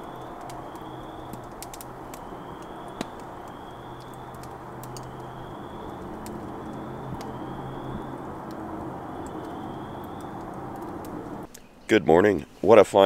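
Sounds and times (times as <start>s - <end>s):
campfire crackling and popping: 0.0s - 11.7s
distant road traffic hum: 0.0s - 11.8s.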